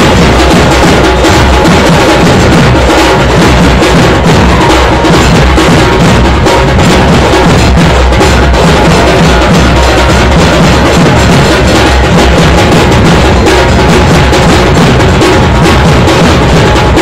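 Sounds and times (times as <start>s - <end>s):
fast loud drumming: 0.0s - 17.0s.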